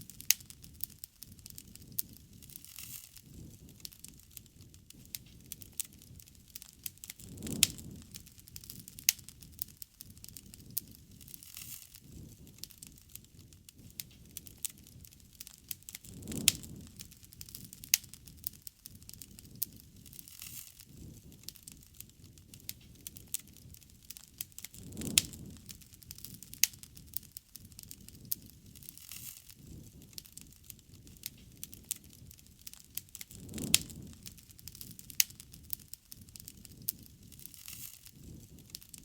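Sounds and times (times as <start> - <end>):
campfire crackling and popping: 0.0 - 39.0
low rumble of flame: 0.0 - 39.0.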